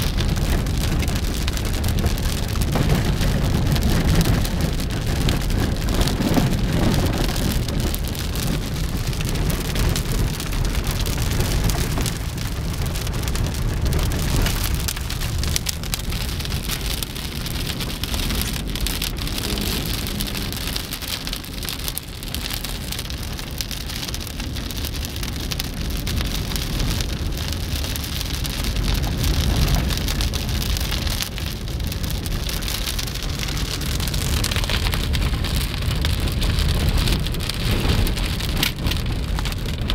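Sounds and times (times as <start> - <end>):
heavy rain falling: 0.0 - 39.9
low rumble: 0.0 - 39.9.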